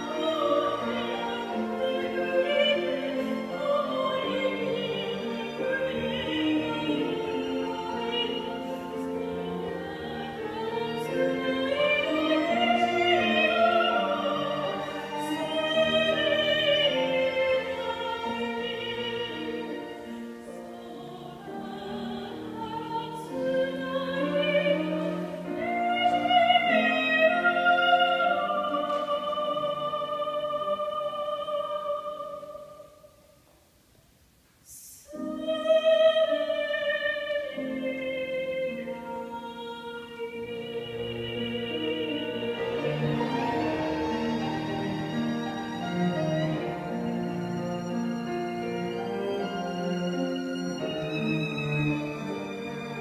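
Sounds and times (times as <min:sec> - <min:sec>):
cello: 0:00.0 - 0:32.9, 0:35.1 - 0:53.0
violin: 0:00.0 - 0:33.0, 0:34.7 - 0:53.0
soprano singing operatically: 0:00.0 - 0:33.2, 0:34.7 - 0:53.0
piano: 0:00.0 - 0:33.9, 0:34.7 - 0:53.0.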